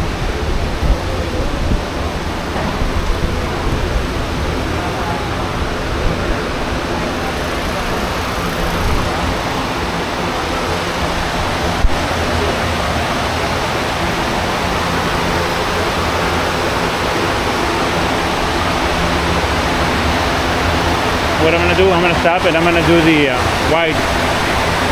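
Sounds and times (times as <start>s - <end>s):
rushing air noise: 0.0s - 24.9s.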